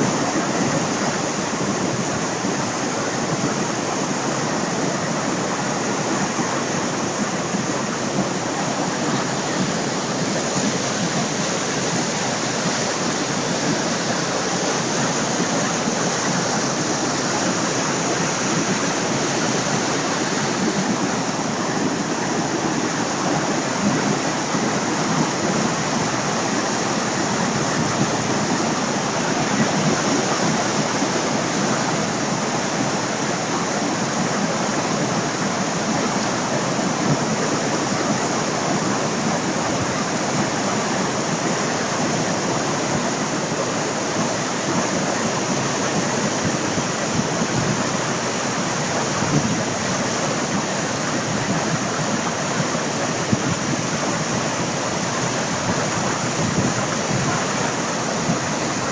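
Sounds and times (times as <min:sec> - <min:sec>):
flooded brook rushing: 0:00.0 - 0:58.9.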